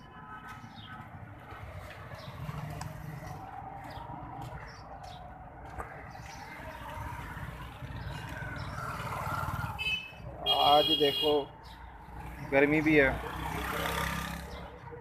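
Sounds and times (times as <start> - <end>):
birds chirping: 0.0 - 15.0
motorcycle and car engines passing: 0.3 - 11.0, 11.7 - 15.0.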